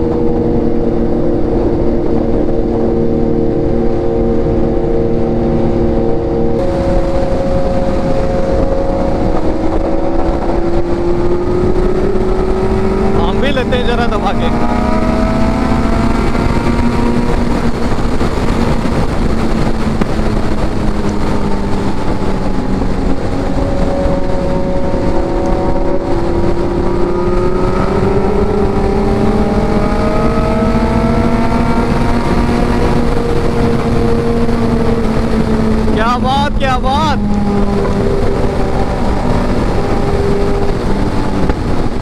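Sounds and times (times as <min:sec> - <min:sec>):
motorcycle engine running: 0:00.0 - 0:42.0
wind rushing on microphone: 0:00.0 - 0:42.0.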